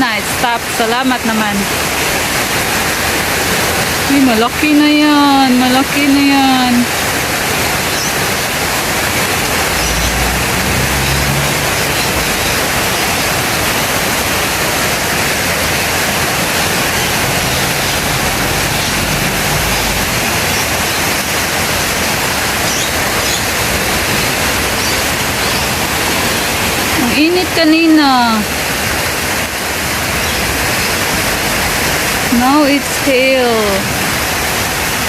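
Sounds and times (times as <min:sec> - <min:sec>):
heavy rain and hail: 0:00.0 - 0:35.0.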